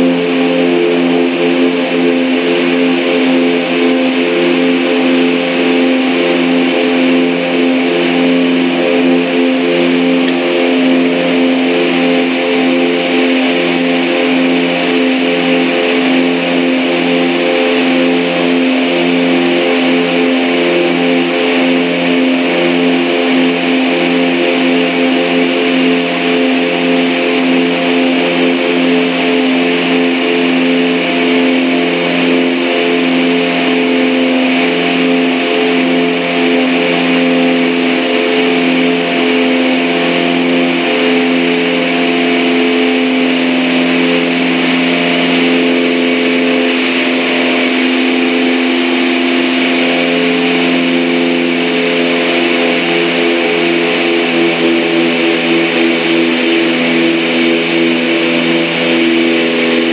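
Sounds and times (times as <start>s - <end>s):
aircraft engines droning in cabin: 0.0s - 59.9s.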